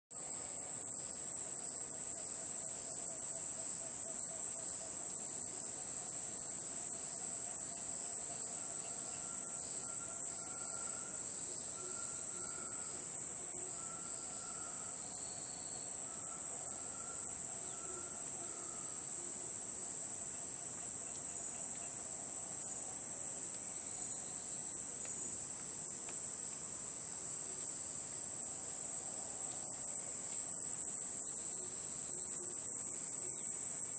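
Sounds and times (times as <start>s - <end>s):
high-pitched insect chorus: 0.2s - 33.9s.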